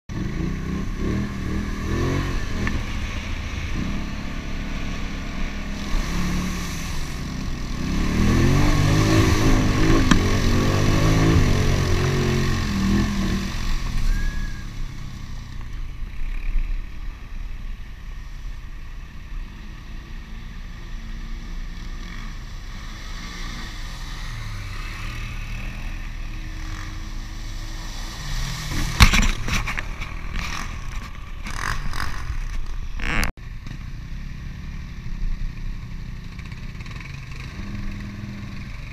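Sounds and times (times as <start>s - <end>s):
atv engines revving: 0.1s - 38.9s.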